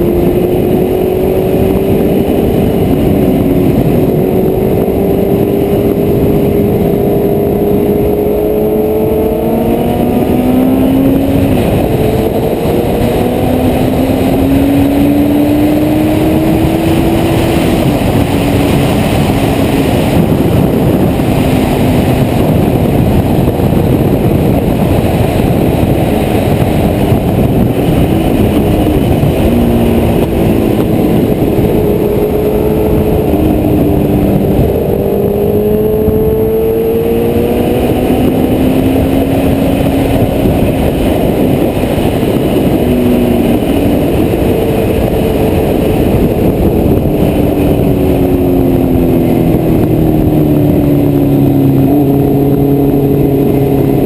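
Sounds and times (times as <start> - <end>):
loud wind rush: 0.0 - 54.0
motorcycle engine at speed: 0.0 - 54.0.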